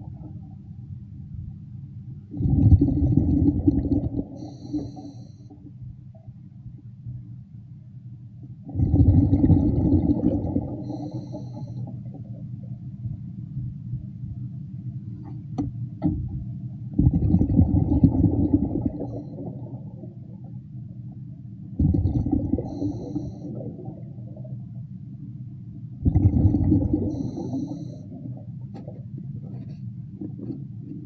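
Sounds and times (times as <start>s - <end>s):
exhaled air bubbling underwater: 0.0s - 0.9s, 2.2s - 7.3s, 8.5s - 15.3s, 16.0s - 31.0s.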